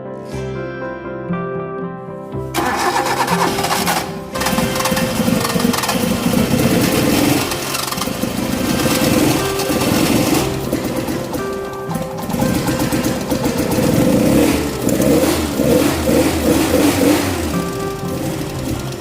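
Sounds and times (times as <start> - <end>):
background music: 0.0 - 19.0
car engine starting and running: 2.6 - 19.0.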